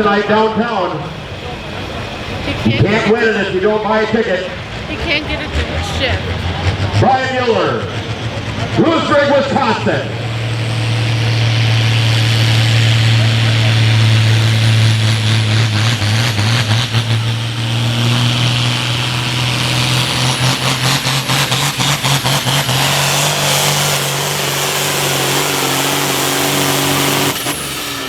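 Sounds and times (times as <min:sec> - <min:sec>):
tractor engine running flat out: 0:00.0 - 0:28.0.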